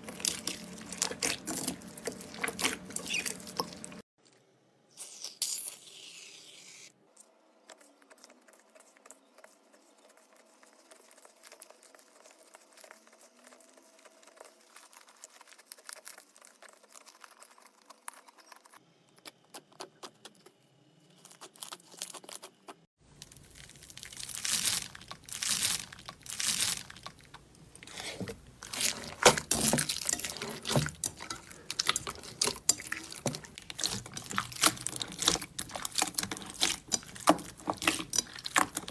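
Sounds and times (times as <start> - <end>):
slime squishing and crackling: 0.0 - 4.0, 7.6 - 18.8, 21.2 - 38.9.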